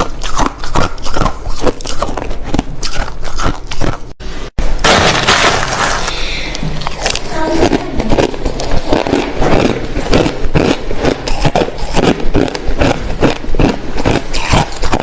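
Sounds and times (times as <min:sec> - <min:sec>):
person chewing crushed ice: 0:00.0 - 0:04.2, 0:06.8 - 0:15.0.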